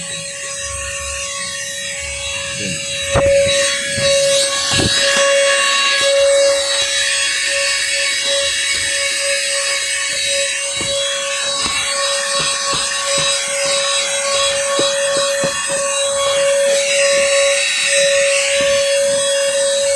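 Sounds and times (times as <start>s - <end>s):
handheld vacuum cleaner whine: 0.0s - 19.9s.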